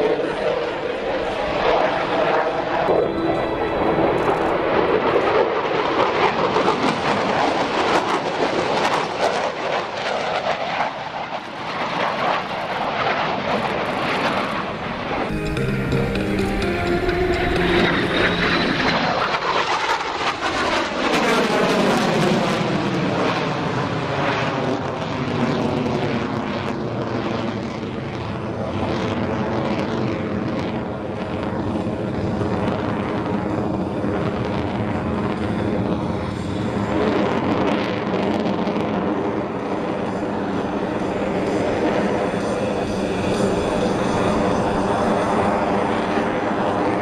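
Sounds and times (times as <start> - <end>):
jet engines passing overhead: 0.0 - 47.0.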